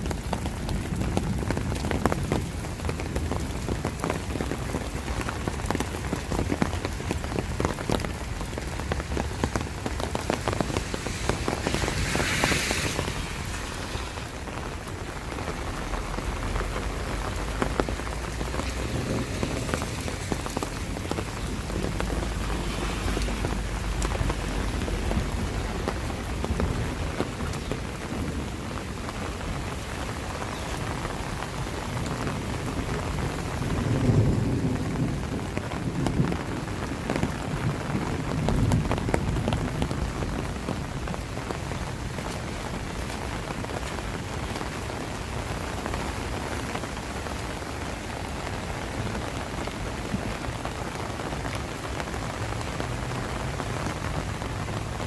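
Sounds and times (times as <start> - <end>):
steady rain with drops ticking: 0.0 - 55.0.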